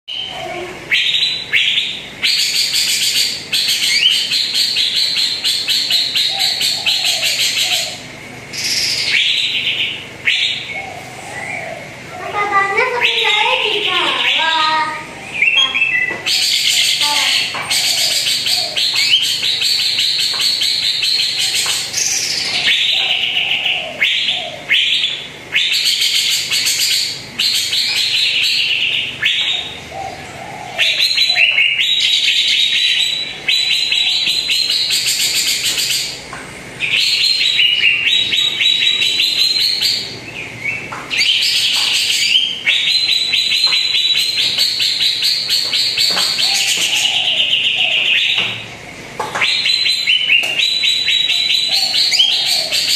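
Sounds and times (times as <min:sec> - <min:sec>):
bird singing chattering phrases: 0:00.1 - 0:52.9.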